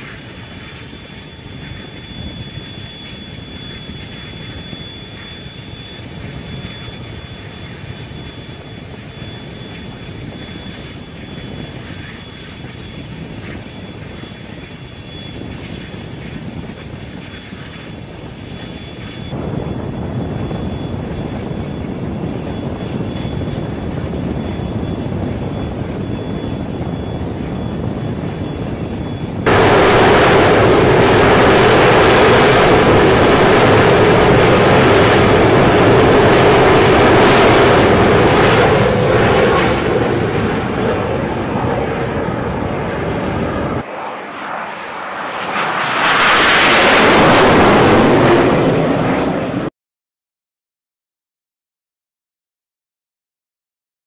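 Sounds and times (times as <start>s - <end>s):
jet engines running: 0.0s - 49.7s.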